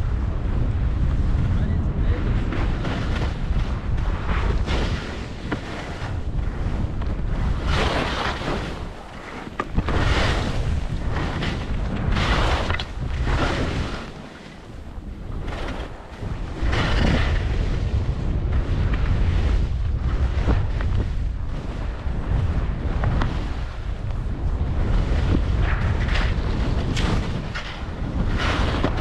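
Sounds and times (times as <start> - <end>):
wind buffeting microphone: 0.0 - 29.0
skis scraping across snow: 0.5 - 29.0.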